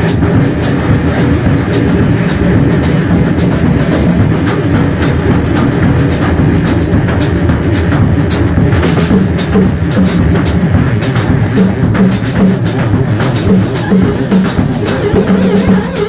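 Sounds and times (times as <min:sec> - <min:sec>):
rumbling low-end electronic layer: 0:00.0 - 0:16.0
sharp high drum hits: 0:00.0 - 0:16.0.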